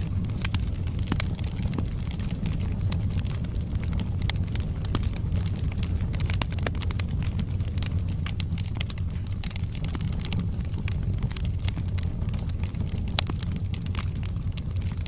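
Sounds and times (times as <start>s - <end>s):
burning logs popping and crackling: 0.0s - 15.0s
fire flames rumbling: 0.0s - 15.0s.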